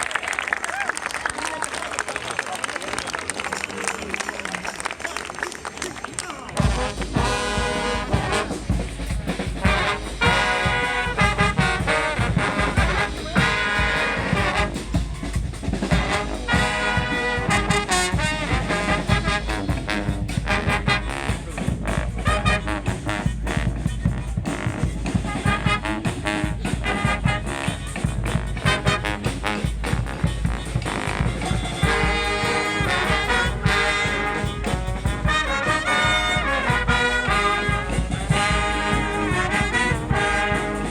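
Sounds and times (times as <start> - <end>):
trombones and trumpets blaring: 6.5 - 40.9
steady drums: 6.6 - 40.9.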